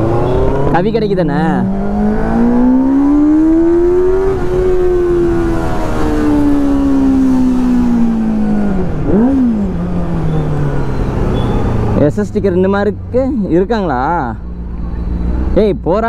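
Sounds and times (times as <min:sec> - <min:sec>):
motorcycle engine revving: 0:00.0 - 0:13.3.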